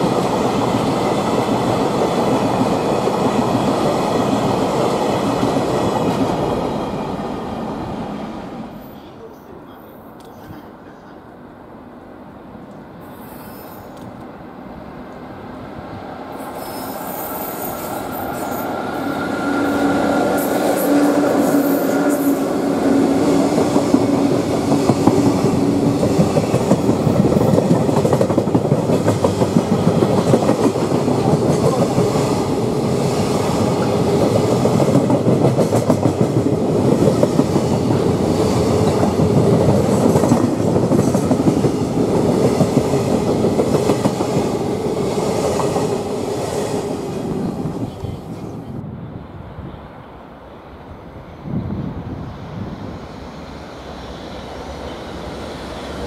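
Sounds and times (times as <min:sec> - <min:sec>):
electric locomotive hum: 0:10.2 - 0:56.0.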